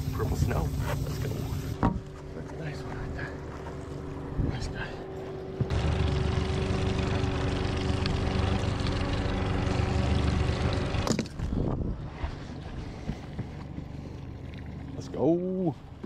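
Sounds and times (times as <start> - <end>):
boat motor running: 0.0 - 16.0
wind: 0.0 - 16.0.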